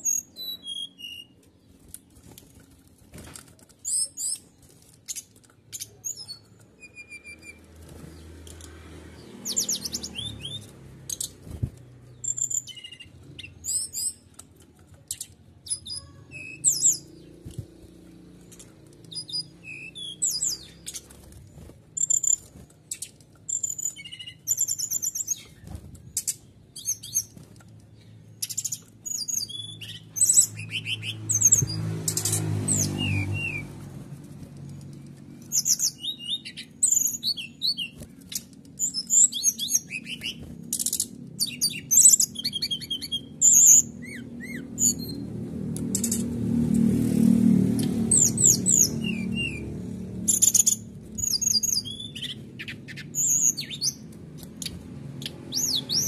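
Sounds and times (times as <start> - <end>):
bird chirping and trilling: 0.0 - 2.2, 3.8 - 8.5, 9.2 - 14.4, 15.0 - 33.8, 34.7 - 56.0.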